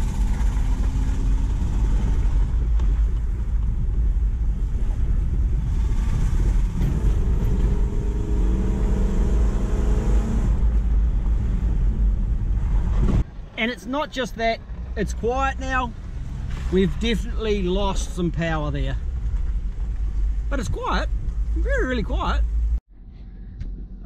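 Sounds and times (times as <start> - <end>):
engine rumble from inside van: 0.0 - 9.6, 10.2 - 24.0
road noise: 0.0 - 24.0.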